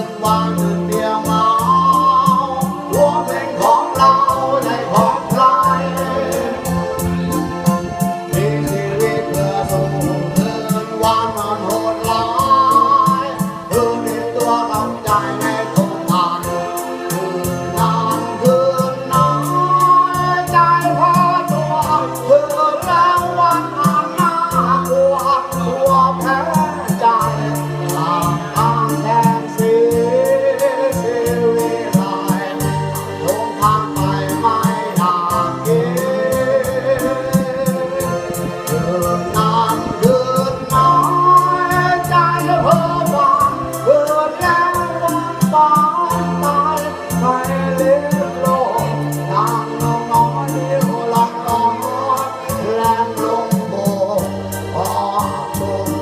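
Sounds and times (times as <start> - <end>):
person singing with vibrato: 0.0 - 56.0
song with band backing: 0.0 - 56.0.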